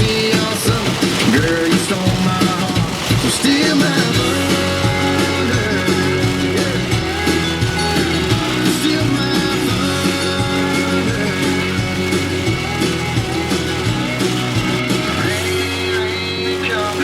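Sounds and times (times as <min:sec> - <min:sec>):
electric guitar: 0:00.0 - 0:17.0
person singing: 0:00.0 - 0:17.0.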